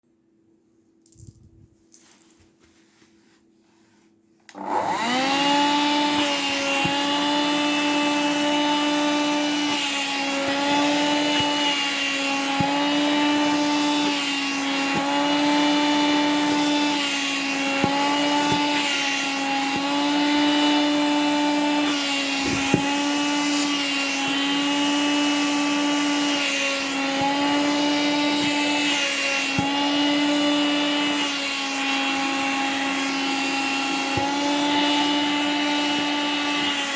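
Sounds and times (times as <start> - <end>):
vacuum cleaner motor whine: 2.5 - 36.9.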